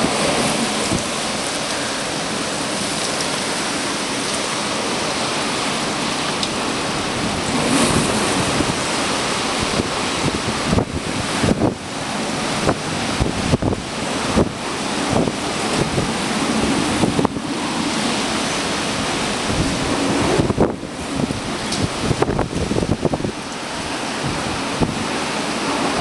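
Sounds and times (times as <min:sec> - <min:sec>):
wind and heavy rain: 0:00.0 - 0:26.0
wind buffeting microphone: 0:00.0 - 0:26.0.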